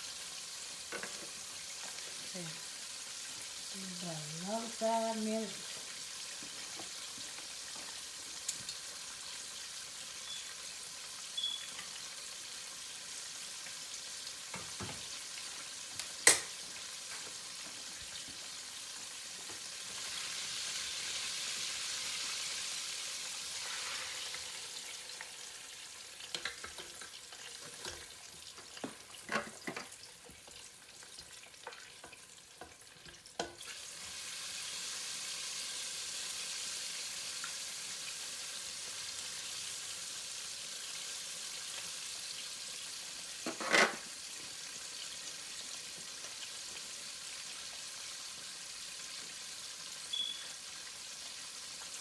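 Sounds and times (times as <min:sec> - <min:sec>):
oil sizzling: 0:00.0 - 0:52.0.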